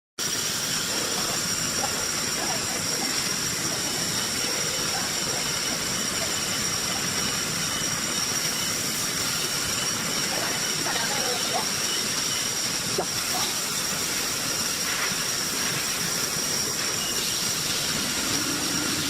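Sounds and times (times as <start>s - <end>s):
even hiss: 0.2s - 19.0s
router spindle high whine: 0.3s - 12.9s, 16.3s - 19.0s.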